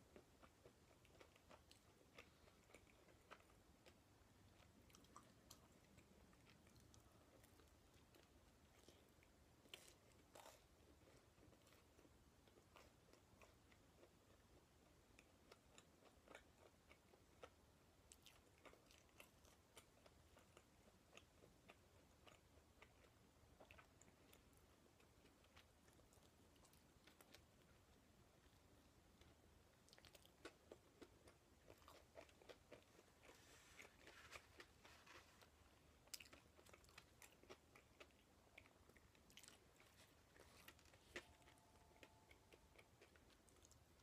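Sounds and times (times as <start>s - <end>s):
faint chewing of toast: 0.0s - 44.0s.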